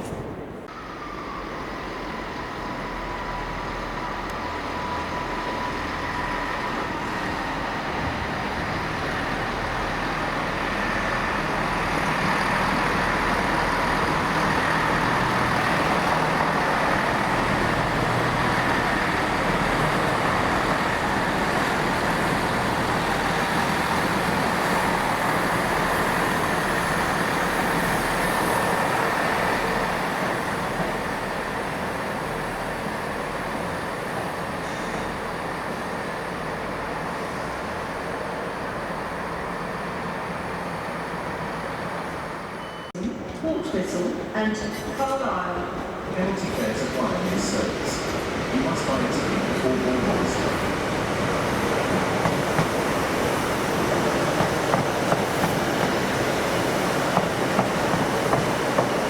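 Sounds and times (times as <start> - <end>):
train engine drone with whine: 0.0 - 59.0.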